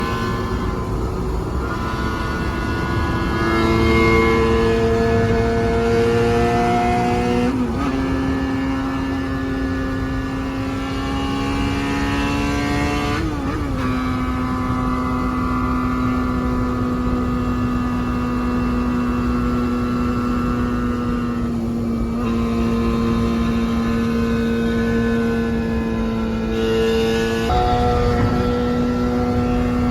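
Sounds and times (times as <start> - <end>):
motorcycle engine steady note: 0.0 - 29.9.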